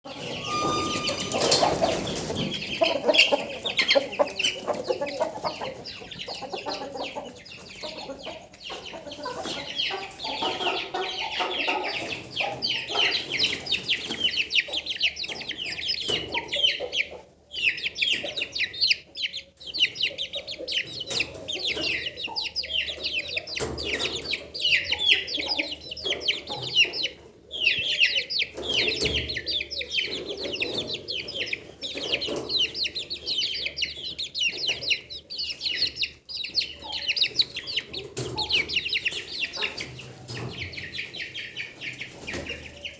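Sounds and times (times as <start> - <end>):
chickens clucking: 0.0 - 42.9
high-pitched chick peeps: 0.1 - 42.9.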